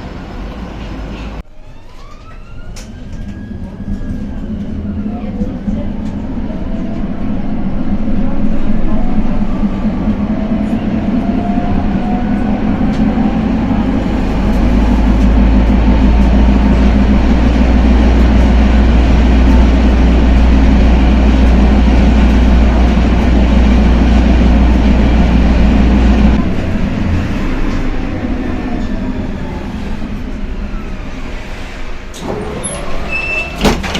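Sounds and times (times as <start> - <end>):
tram wheels rumbling on track: 0.0 - 33.9.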